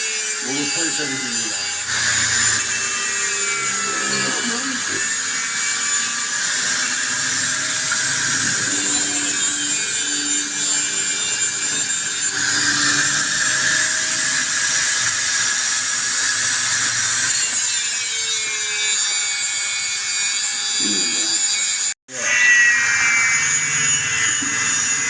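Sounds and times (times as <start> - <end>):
power tool whining on metal: 0.0 - 25.0.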